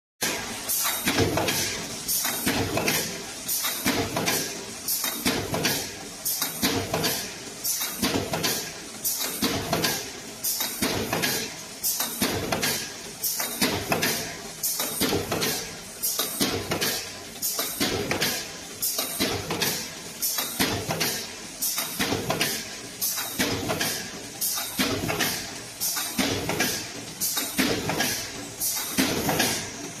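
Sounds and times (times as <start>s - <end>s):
press machine metal clacks: 0.2s - 30.0s.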